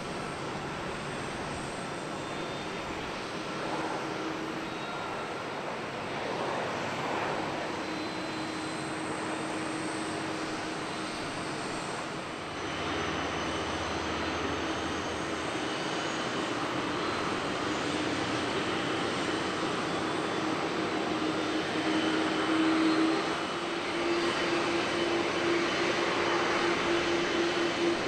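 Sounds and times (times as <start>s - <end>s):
jet airliner whine and rush: 0.0s - 28.0s.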